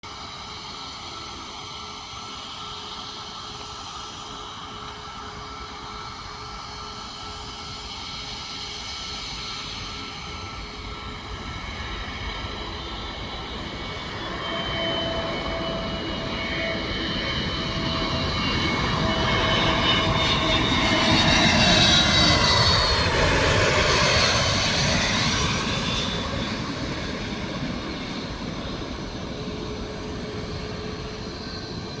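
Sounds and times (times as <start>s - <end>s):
jet airliner passing by: 0.1s - 32.0s.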